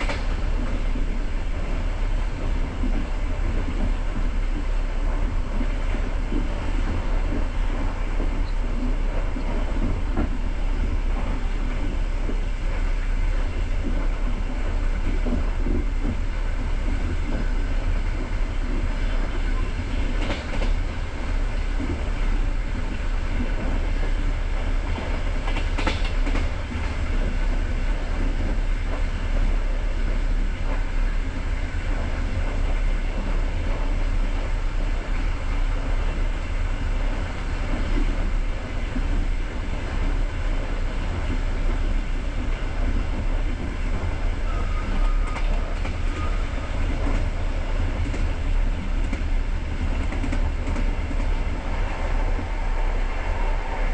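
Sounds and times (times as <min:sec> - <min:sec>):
clickety-clack over rail joints: 0:00.0 - 0:53.9
train wheels rumbling on rails: 0:00.0 - 0:53.9.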